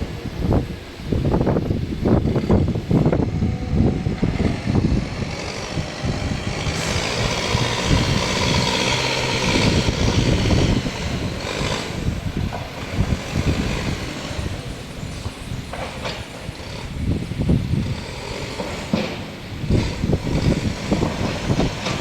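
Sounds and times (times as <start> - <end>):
diesel engine running: 0.0 - 22.0
hiss: 0.0 - 22.0.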